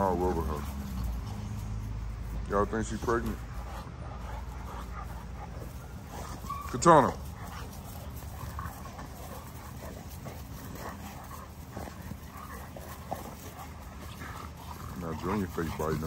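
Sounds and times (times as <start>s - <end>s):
puppies scuffling on grass: 0.0s - 16.0s.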